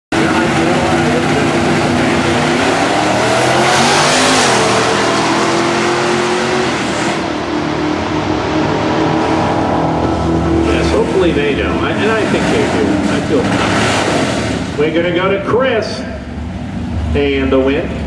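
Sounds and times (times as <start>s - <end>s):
drag race car engines revving: 0.1s - 18.0s.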